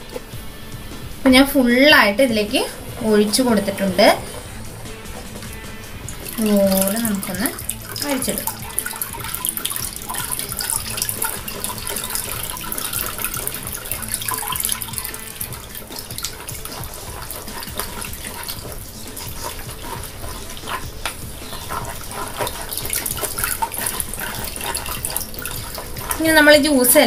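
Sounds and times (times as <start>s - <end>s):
wooden spoon stirring wet mash: 1.9s - 27.0s
liquid trickling and splashing: 2.6s - 27.0s.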